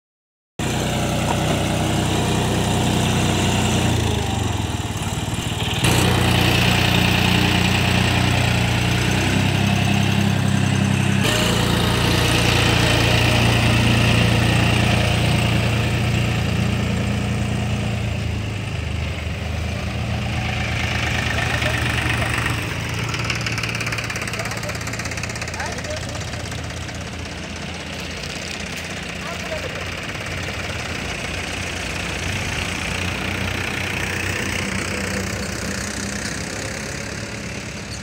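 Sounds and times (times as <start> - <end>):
tractor diesel engine running: 0.6 - 38.0.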